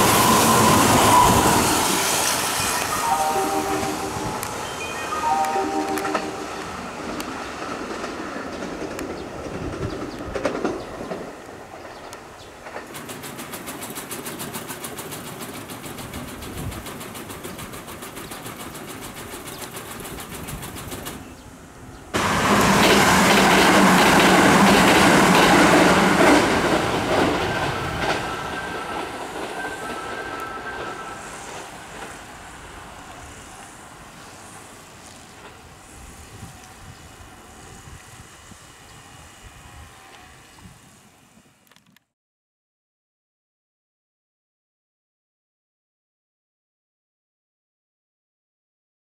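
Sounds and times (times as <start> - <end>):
train rushing past: 0.0 - 41.4.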